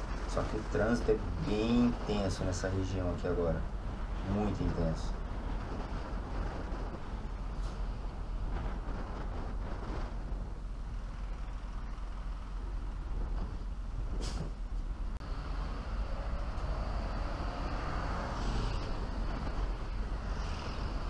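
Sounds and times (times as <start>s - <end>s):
wind and road rumble: 0.0s - 21.0s.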